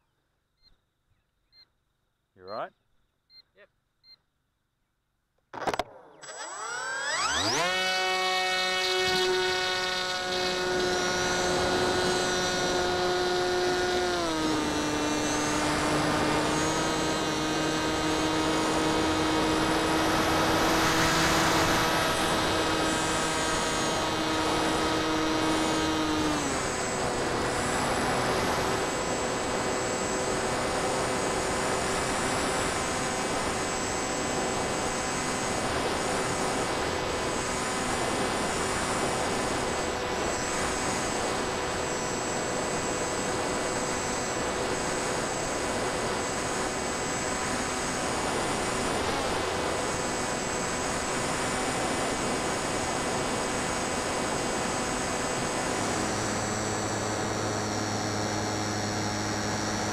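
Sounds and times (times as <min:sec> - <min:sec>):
electric motor and propeller whining: 0:05.6 - 0:59.9.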